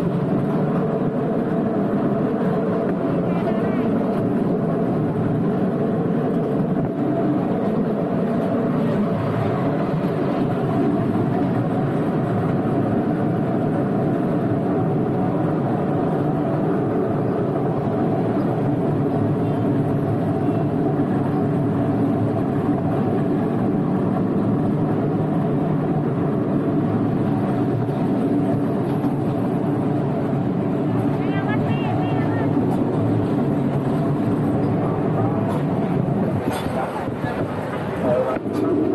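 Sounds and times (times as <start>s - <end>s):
small train running: 0.0s - 38.9s.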